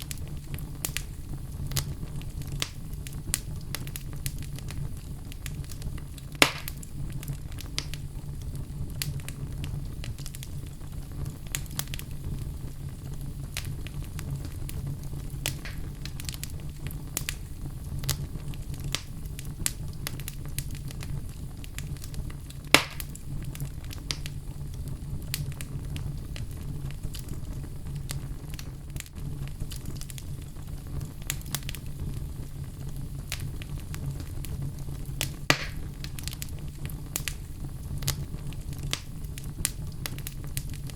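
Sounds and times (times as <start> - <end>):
fire popping: 0.0 - 40.9
wood fire crackling: 0.0 - 40.9.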